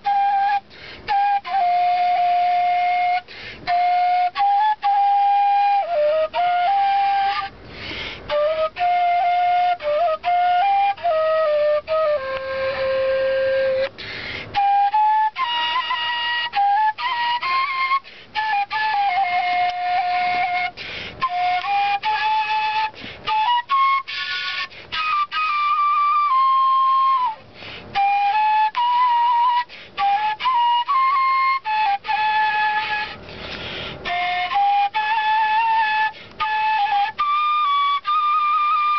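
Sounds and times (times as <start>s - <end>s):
wooden flute melody: 0.0s - 38.9s.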